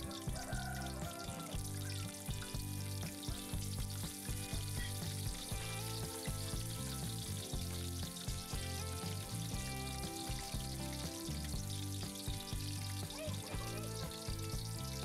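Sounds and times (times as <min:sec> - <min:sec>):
background music with a beat: 0:00.0 - 0:15.0
chillies sizzling in hot oil: 0:00.0 - 0:15.0.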